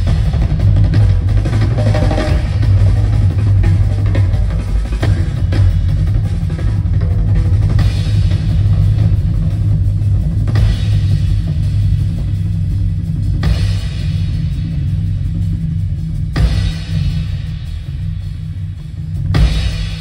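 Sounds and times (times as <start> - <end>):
drum kit playing: 0.0 - 20.0
live concert music: 0.0 - 20.0.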